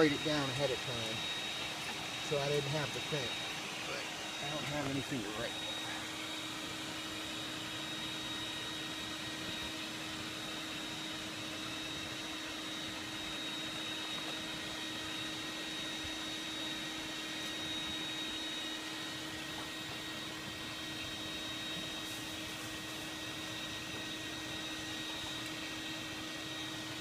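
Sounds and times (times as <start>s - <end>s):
blower hum and whine: 0.0s - 27.0s
electric blower rushing air: 0.0s - 27.0s.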